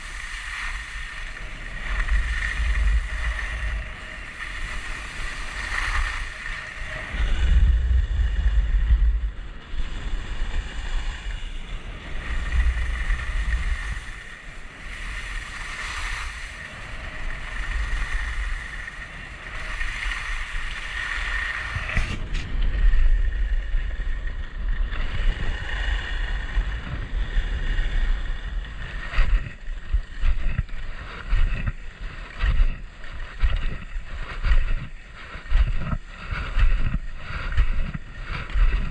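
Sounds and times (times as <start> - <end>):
skis scraping on snow: 0.0 - 9.2, 9.8 - 38.9
skis sliding on snow: 0.0 - 9.2, 9.8 - 38.9
wind buffeting microphone: 0.0 - 38.9.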